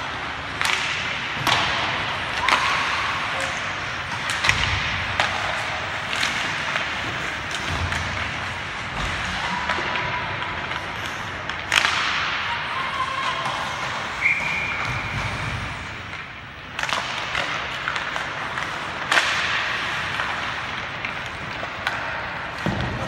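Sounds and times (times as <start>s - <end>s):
arena noise: 0.0s - 23.0s
skates on ice: 0.0s - 23.0s
hockey stick and puck cracks: 0.1s - 12.4s, 13.0s - 23.0s.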